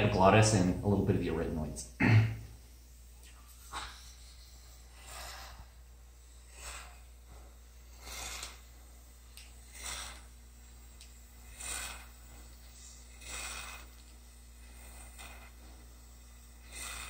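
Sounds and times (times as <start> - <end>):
atomizer hissing puffs: 0.0 - 17.0.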